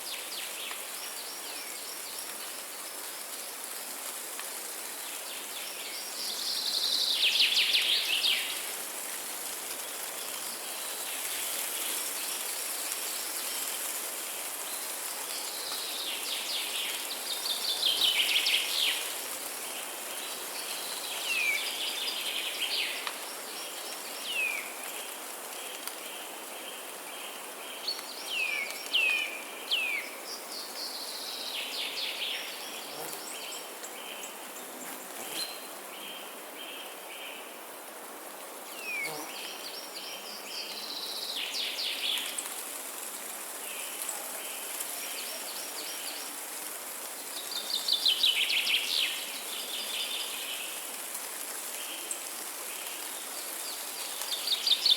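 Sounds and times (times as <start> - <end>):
steady high-pitched hiss: 0.0 - 54.9.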